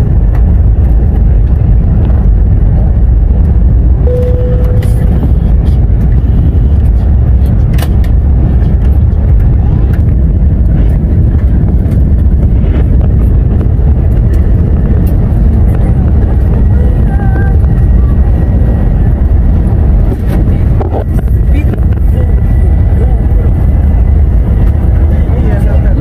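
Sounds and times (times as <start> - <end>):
jet cabin engine rumble: 0.0 - 26.0.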